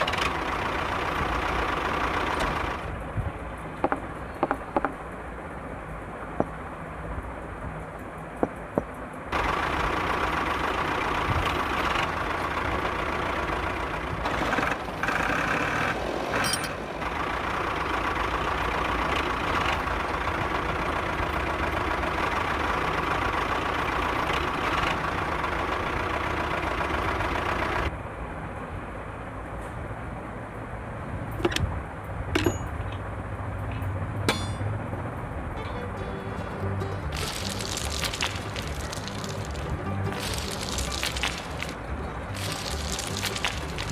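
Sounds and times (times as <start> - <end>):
engine running: 0.0 - 28.0, 31.3 - 43.9.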